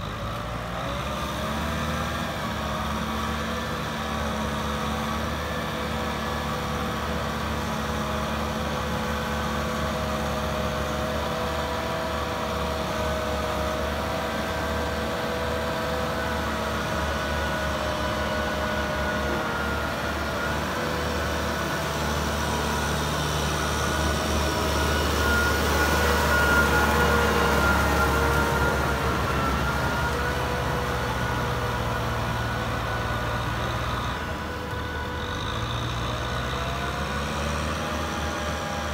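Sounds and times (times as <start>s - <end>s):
tractor diesel engine under load: 0.0s - 38.9s
steady machine whine: 2.4s - 38.9s.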